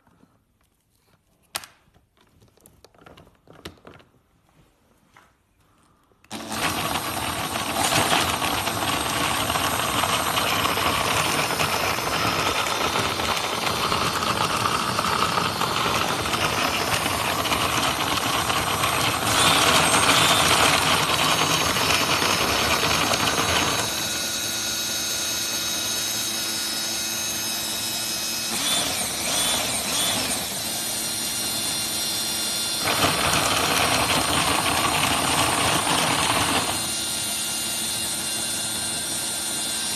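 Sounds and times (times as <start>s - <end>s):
model engine whir and rattle: 6.3s - 26.4s, 27.0s - 39.9s.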